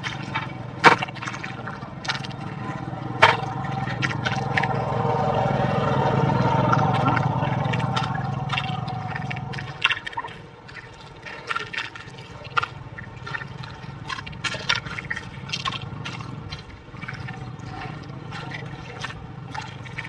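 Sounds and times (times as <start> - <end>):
water gurgling and sloshing: 0.0 - 20.0.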